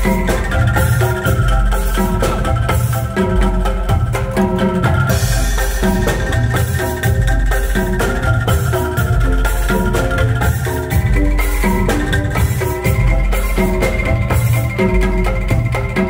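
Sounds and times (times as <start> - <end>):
bamboo percussion notes: 0.0 - 16.0
drum kit and cymbal hits: 0.0 - 16.0
pulsing bass: 0.0 - 16.0.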